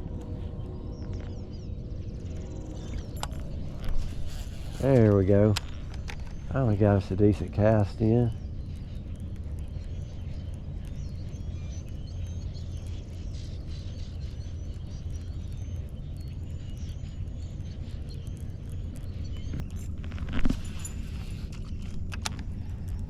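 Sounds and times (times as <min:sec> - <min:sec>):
birds chirping: 0:00.0 - 0:23.0
steady low rumble: 0:00.0 - 0:23.0.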